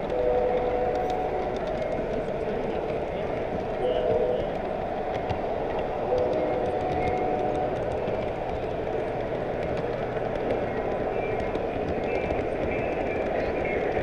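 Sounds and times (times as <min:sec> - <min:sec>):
faint track clicks: 0:00.0 - 0:14.0
model train wheels rumbling: 0:00.0 - 0:14.0.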